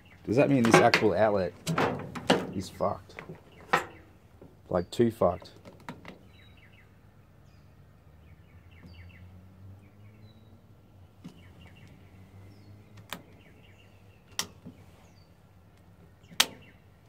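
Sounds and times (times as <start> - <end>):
small birds chirping: 0.0 - 1.6, 2.3 - 17.0.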